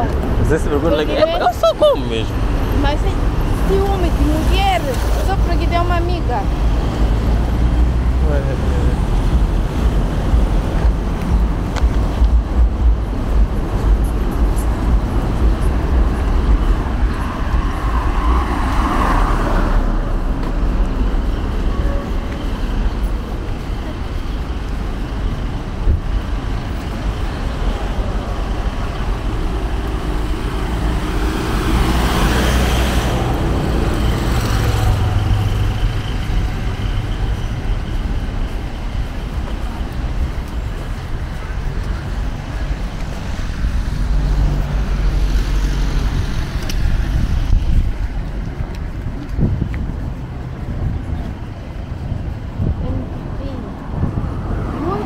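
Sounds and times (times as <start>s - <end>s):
low engine rumble: 0.0s - 55.0s
vehicles passing by: 0.0s - 55.0s.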